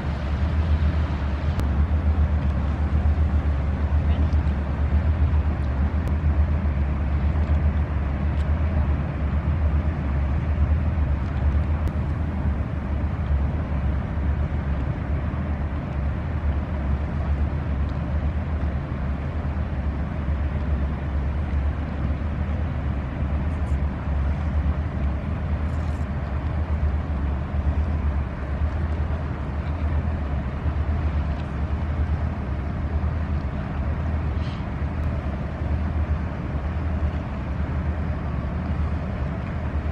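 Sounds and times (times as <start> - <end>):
barge diesel engine rumbling: 0.0 - 39.9.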